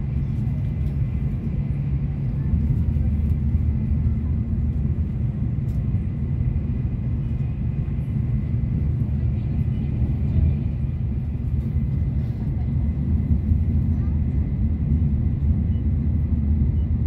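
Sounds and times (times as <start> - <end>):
train rumble inside car: 0.0 - 17.0.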